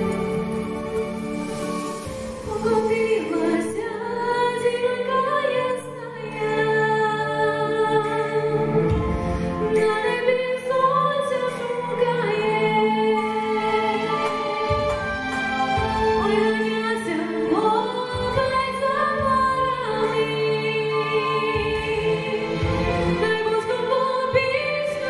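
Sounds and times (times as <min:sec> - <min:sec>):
instrumental backing music: 0:00.0 - 0:25.0
woman singing into microphone: 0:02.4 - 0:25.0.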